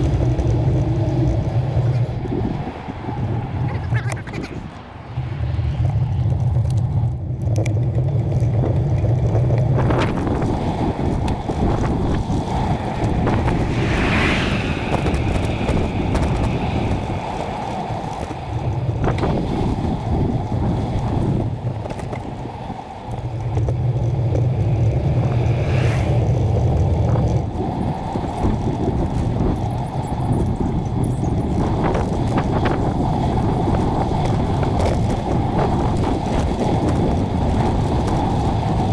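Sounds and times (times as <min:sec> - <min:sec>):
road traffic: 0:00.0 - 0:38.9
vehicles passing: 0:00.0 - 0:38.9
wind rumbling on microphone: 0:00.0 - 0:38.9.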